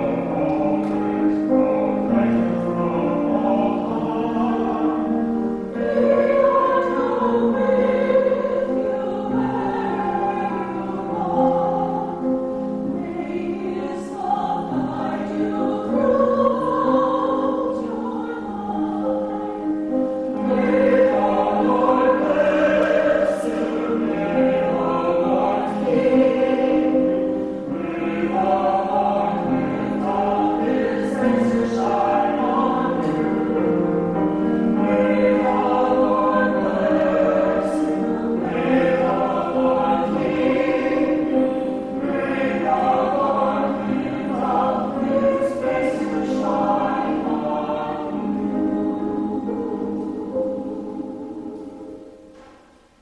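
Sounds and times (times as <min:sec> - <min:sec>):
vocal quartet singing in harmony: 0:00.0 - 0:53.0.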